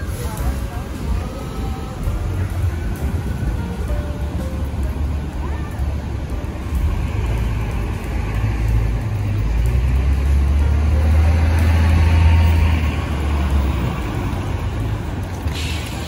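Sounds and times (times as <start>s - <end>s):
heavy vehicle engine rumbling: 0.0s - 16.0s
street traffic: 0.0s - 16.0s.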